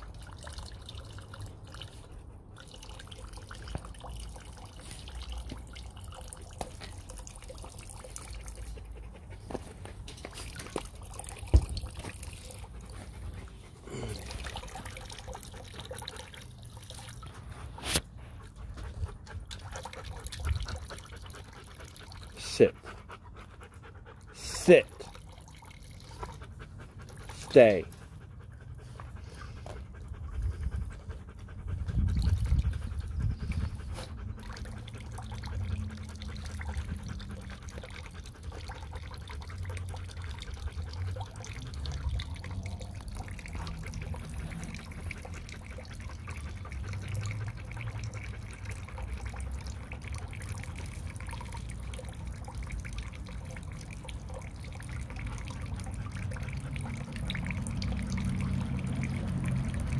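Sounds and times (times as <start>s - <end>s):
water trickling into bowl: 0.0s - 9.0s, 10.3s - 13.3s, 13.9s - 17.6s, 19.1s - 22.4s, 24.2s - 28.0s, 32.1s - 59.9s
puppies panting: 1.2s - 59.9s.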